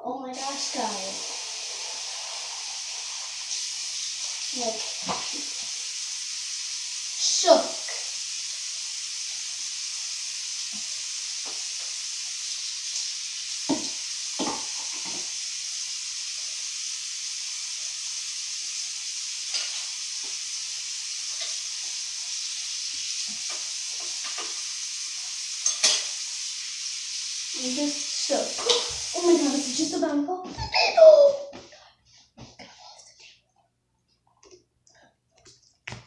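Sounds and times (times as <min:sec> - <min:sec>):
steady high hiss: 0:00.2 - 0:31.6.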